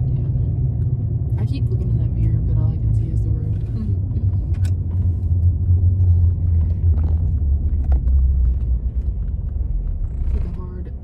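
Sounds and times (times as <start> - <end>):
truck cab low rumble: 0.0 - 11.0.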